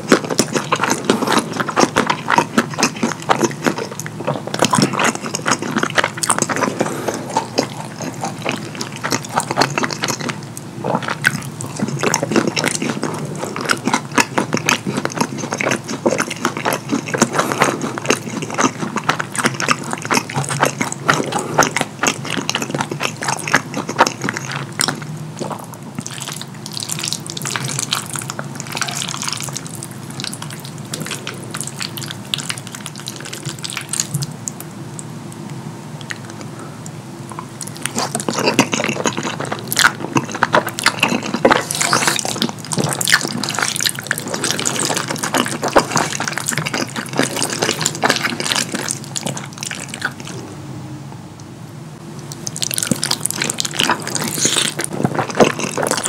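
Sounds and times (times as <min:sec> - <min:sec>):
wet chewing and mouth smacking: 0:00.0 - 0:50.4, 0:52.1 - 0:56.0.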